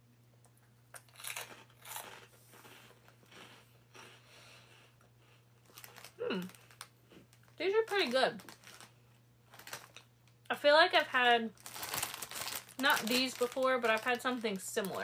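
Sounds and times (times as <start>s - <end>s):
person crunching corn puffs: 0.4s - 10.1s, 11.6s - 15.0s.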